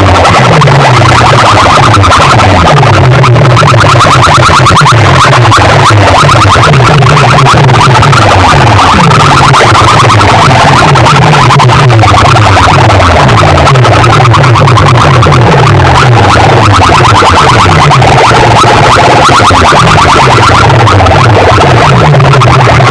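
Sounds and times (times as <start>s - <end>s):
loud distorted electronic dance music: 0.0s - 22.9s.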